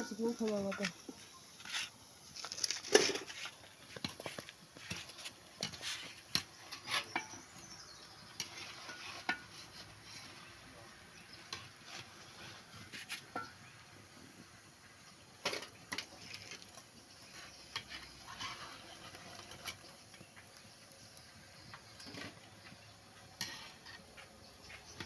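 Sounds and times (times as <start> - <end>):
fritters sizzling in hot oil: 0.0 - 25.0.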